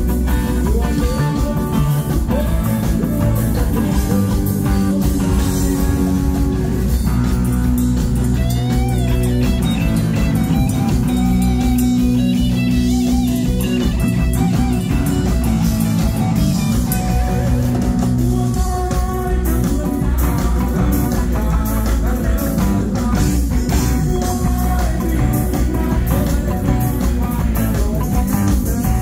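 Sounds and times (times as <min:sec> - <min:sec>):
drums and cymbals: 0:00.0 - 0:29.0
rock band playing: 0:00.0 - 0:29.0.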